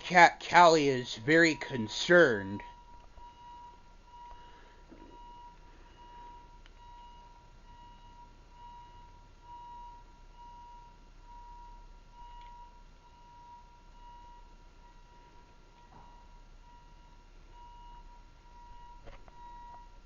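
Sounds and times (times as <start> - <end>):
faint electronic beeping: 0.1 - 20.0.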